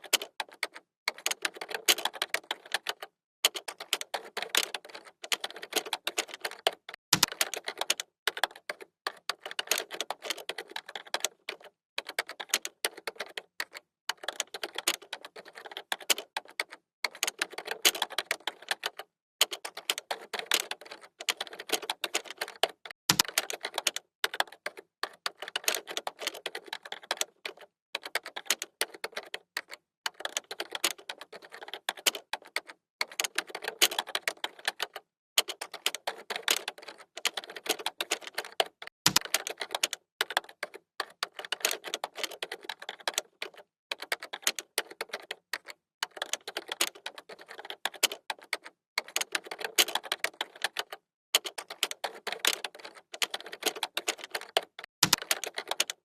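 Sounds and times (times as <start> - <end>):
computer keyboard typing: 0.0 - 56.0.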